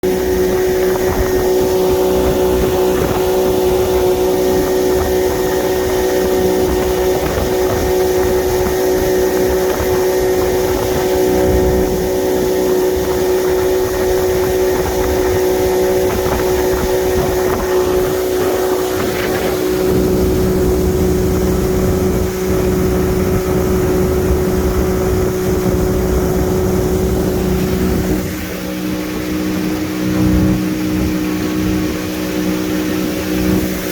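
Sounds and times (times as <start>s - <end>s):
boat engine running: 0.0s - 33.9s
wind rumble on microphone: 0.0s - 33.9s.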